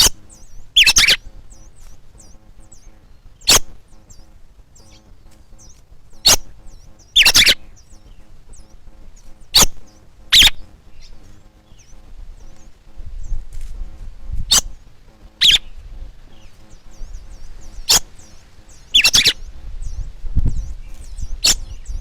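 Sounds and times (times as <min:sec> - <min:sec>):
harsh bird calls: 0:00.0 - 0:22.0
high hooked bird chirps: 0:00.0 - 0:22.0.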